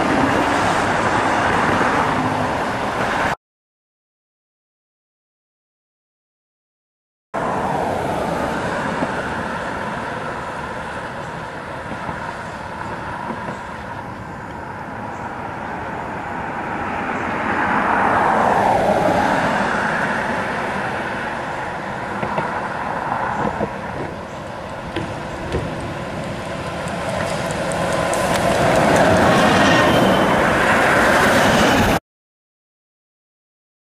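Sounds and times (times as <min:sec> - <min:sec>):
cars driving by: 0:00.0 - 0:03.4, 0:07.4 - 0:32.0
trolleybus driving by: 0:00.0 - 0:03.4, 0:07.4 - 0:32.0.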